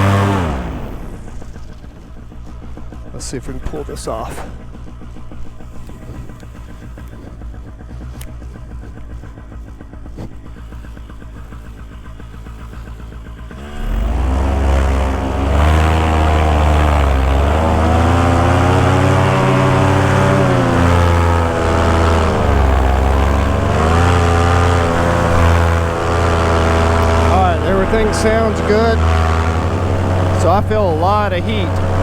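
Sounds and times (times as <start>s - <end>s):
paramotor engine and propeller revving: 0.0s - 32.0s.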